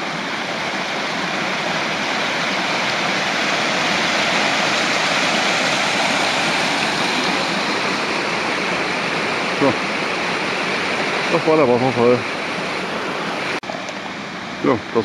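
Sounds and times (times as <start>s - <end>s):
water cascading over rocks: 0.0s - 15.0s.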